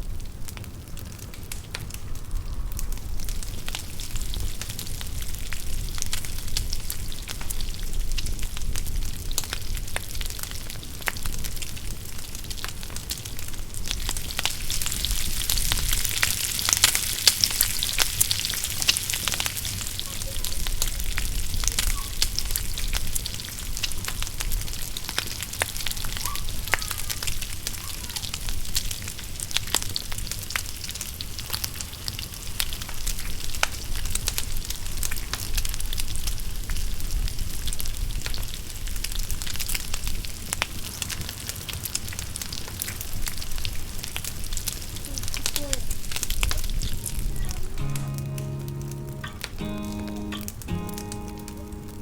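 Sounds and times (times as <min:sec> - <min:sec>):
fire hissing: 0:00.0 - 0:52.0
wood fire crackling and popping: 0:00.0 - 0:52.0.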